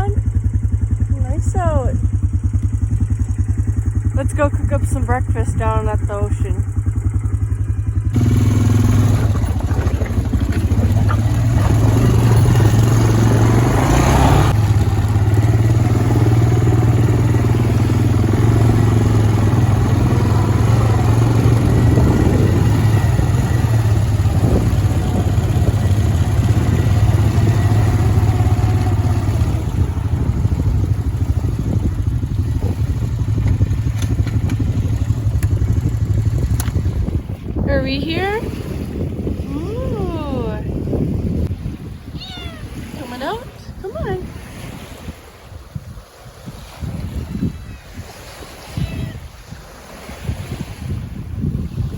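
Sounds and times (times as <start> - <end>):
quad engine running: 0.0 - 51.9.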